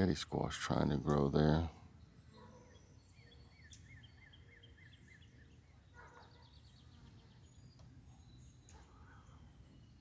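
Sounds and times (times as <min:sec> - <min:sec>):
songbirds singing: 0:00.0 - 0:10.0
bird trill: 0:01.9 - 0:10.0.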